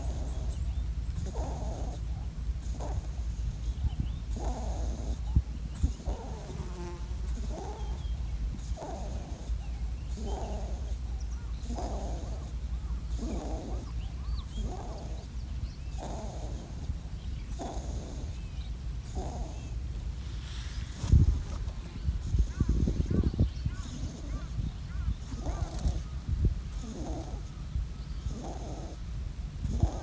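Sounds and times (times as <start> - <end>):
rabbit vocalising: 0.0 - 19.8, 20.4 - 30.0.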